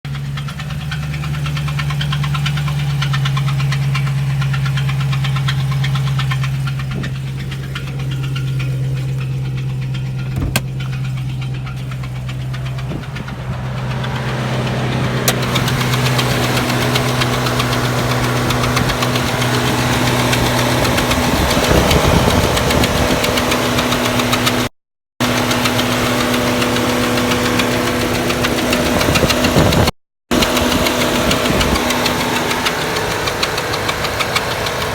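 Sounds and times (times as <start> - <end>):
car engine running: 0.0 - 34.9
abnormal engine ticking noise: 0.1 - 34.9.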